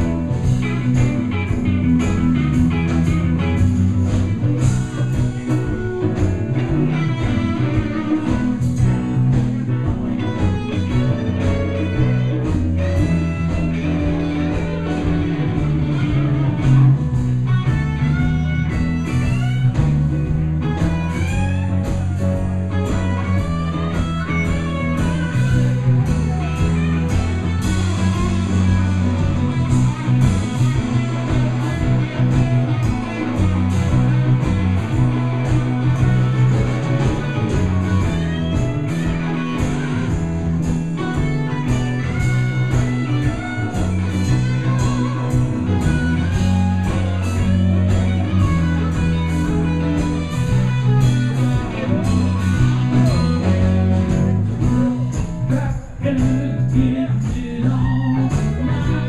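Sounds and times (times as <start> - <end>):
bass line: 0.0 - 59.0
drums: 0.0 - 59.0
electric guitar solo: 0.0 - 59.0
keyboard: 0.0 - 59.0.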